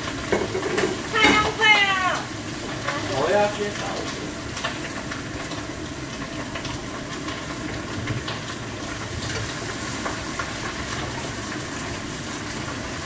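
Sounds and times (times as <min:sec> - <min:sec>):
tap water running: 0:00.0 - 0:13.0
wok sizzling: 0:00.0 - 0:13.0.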